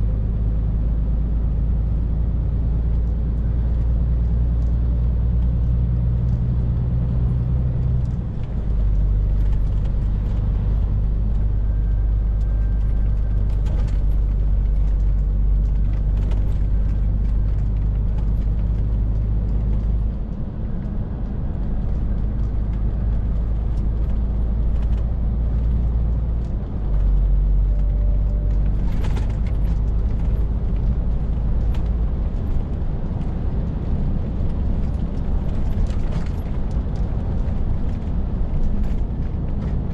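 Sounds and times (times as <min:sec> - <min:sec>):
diesel lorry engine droning: 0:00.0 - 0:39.9.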